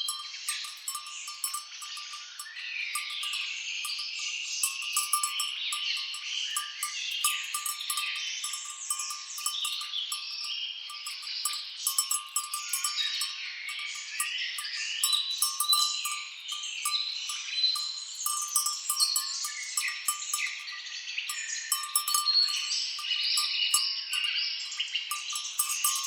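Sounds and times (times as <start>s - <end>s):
chorus of birds singing: 0.0s - 26.0s
insects clicking: 0.0s - 26.0s.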